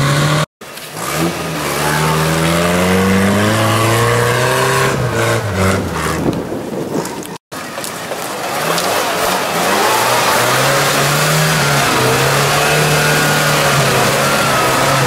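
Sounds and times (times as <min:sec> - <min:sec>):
off-road vehicle engine revving: 0:00.0 - 0:06.6, 0:08.0 - 0:15.0.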